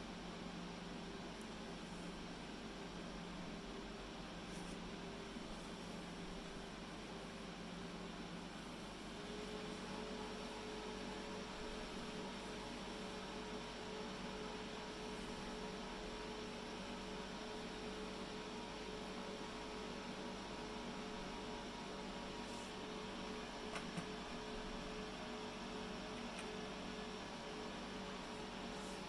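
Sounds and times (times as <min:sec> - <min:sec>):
server cooling fans humming: 0:00.0 - 0:29.0.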